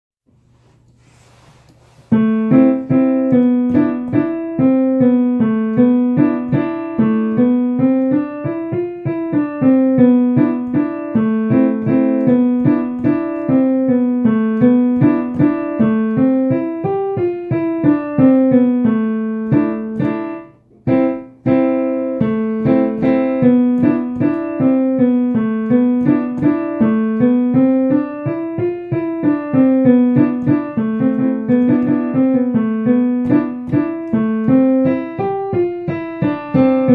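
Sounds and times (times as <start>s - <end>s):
piano waltz: 0.5s - 36.9s.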